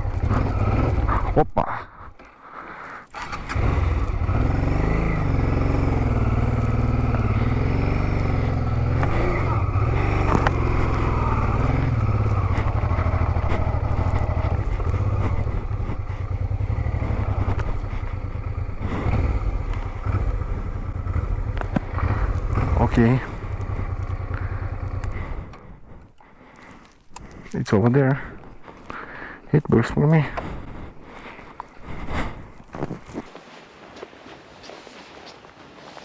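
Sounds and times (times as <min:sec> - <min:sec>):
motorcycle engine climbing dirt path: 0:00.0 - 0:36.0.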